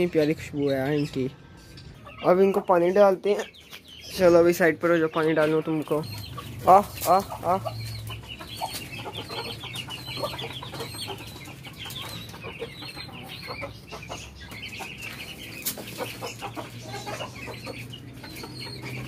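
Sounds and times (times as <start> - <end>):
chicks peeping: 0.0 - 19.0
hen clucking: 0.0 - 19.0.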